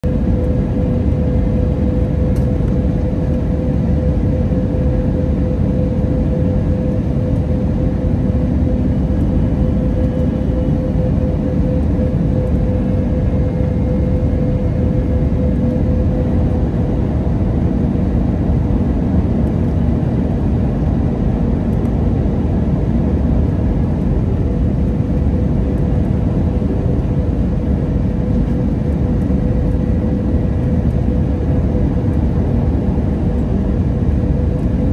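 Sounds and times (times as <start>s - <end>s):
aircraft cabin engine rush: 0.0s - 34.9s.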